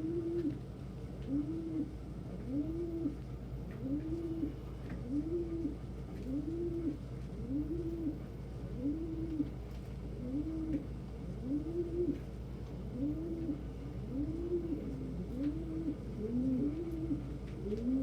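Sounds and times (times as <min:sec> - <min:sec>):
pigeon cooing: 0:00.0 - 0:00.6, 0:01.2 - 0:18.0.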